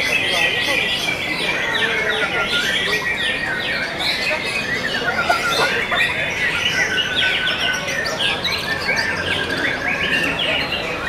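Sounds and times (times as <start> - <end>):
birds chirping and whistling chorus: 0.0 - 11.0.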